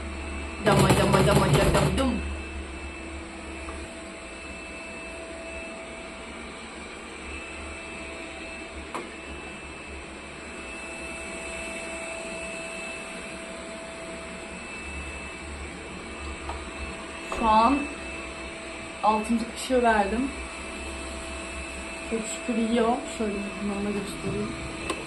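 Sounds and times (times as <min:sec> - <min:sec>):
appliance humming: 0:00.0 - 0:25.0.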